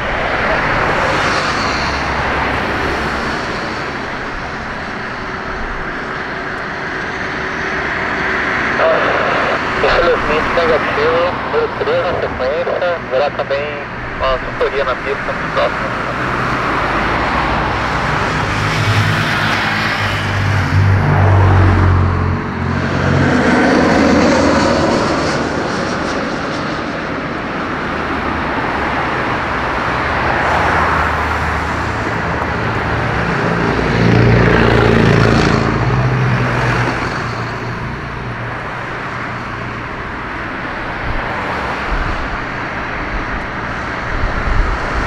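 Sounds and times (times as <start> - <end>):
jet engines running: 0.0 - 45.0
twin-jet airliner passing: 0.0 - 45.0.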